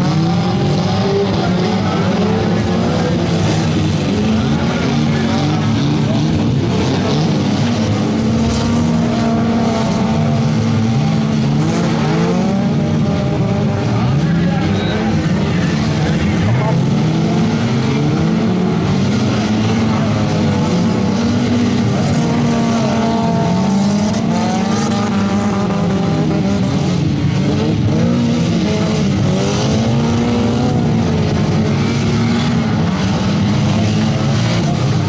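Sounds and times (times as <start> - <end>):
race car engines revving: 0.0 - 35.0.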